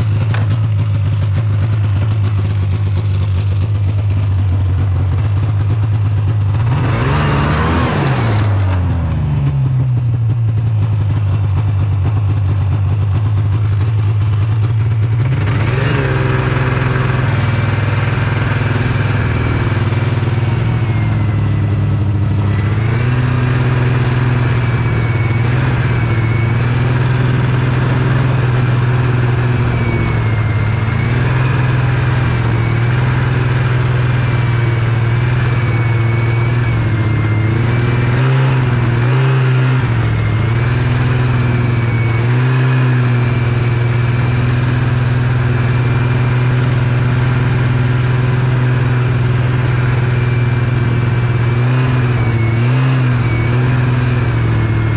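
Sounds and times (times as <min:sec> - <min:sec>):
snowmobile engine running: 0:00.0 - 0:54.9.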